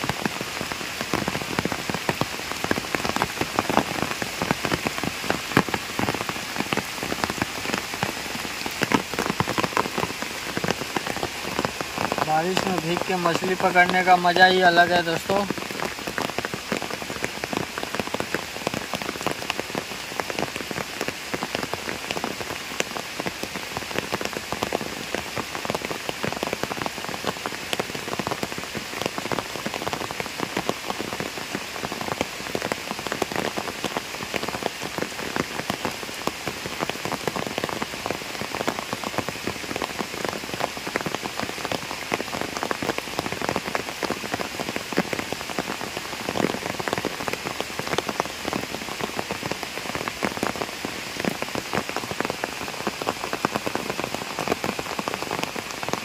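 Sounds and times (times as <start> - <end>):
heavy rain on a pond: 0.0 - 56.0.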